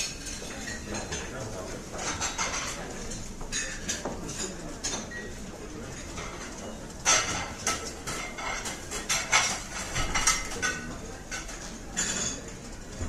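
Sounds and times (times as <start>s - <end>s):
dishes and cutlery clinking: 0.0s - 13.0s.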